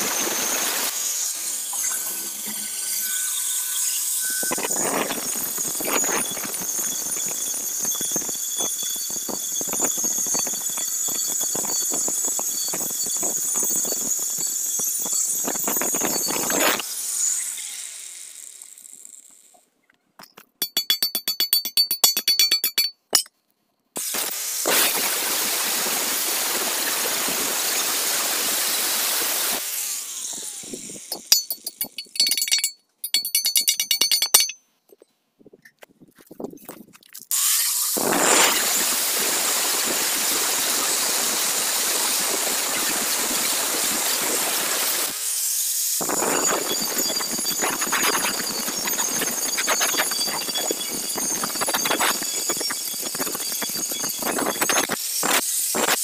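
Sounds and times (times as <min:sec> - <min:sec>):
angle grinder cutting steel: 0:00.0 - 0:19.2, 0:24.0 - 0:34.6, 0:37.3 - 0:56.0.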